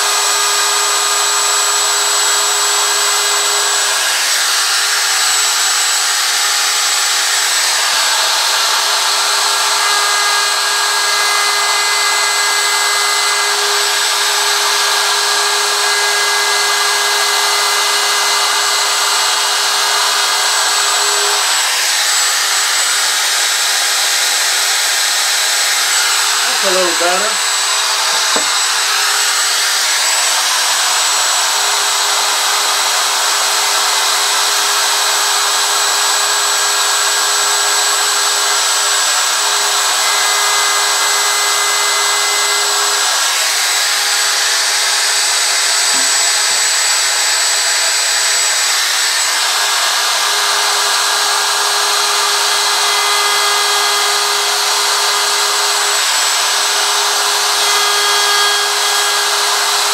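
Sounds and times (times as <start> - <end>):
electric router cutting wood: 0.0 - 59.9.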